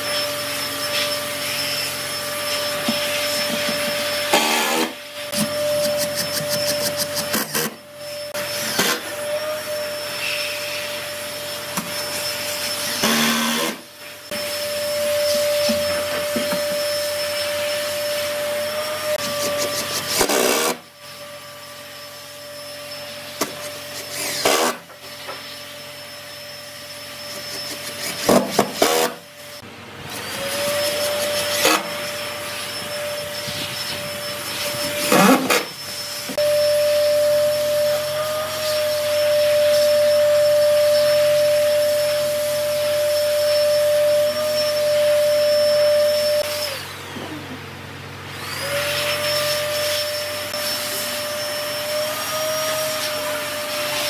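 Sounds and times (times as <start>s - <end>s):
cordless drill motor whining: 0.0s - 54.0s.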